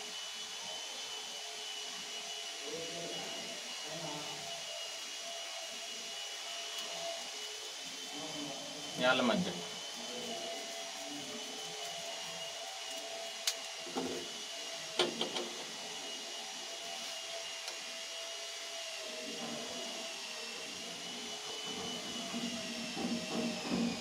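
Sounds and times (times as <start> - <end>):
high-pitched machine whine: 0.0 - 24.0.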